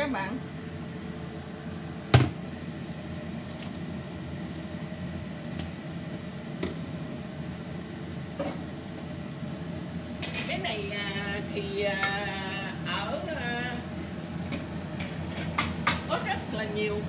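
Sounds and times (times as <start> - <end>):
burner flame humming: 0.0 - 17.0.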